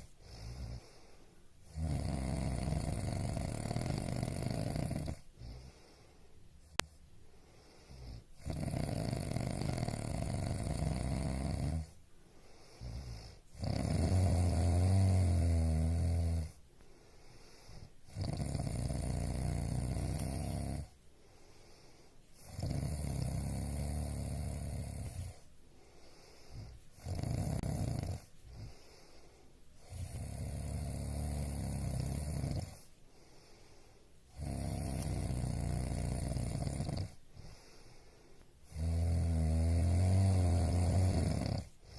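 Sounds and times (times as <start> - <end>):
person snoring: 0.0 - 6.0, 7.6 - 41.9.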